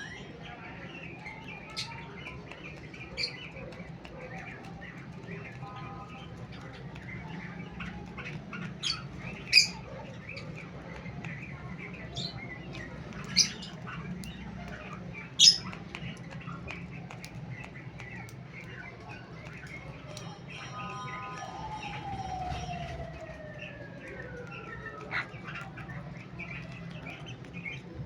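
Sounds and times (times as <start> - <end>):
cockatiels calling shrilly: 0.0 - 23.0, 24.4 - 28.0.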